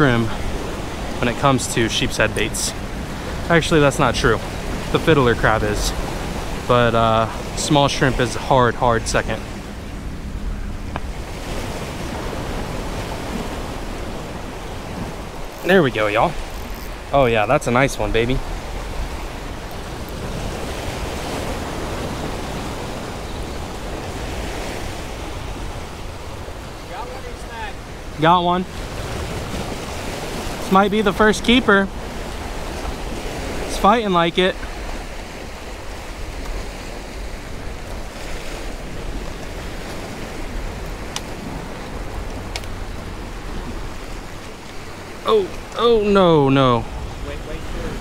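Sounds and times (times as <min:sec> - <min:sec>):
surf breaking on stone jetty: 0:00.0 - 0:48.0.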